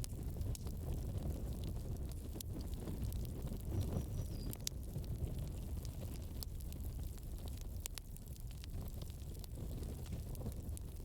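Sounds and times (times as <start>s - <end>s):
campfire burning: 0.0s - 11.0s.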